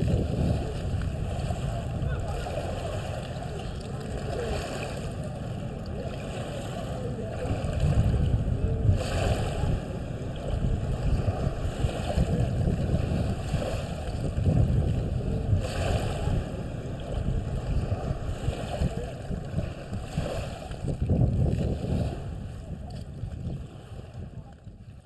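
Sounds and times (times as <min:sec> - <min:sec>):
waves washing over pebbles: 0:00.0 - 0:25.0
wind rumbling on microphone: 0:00.0 - 0:25.0.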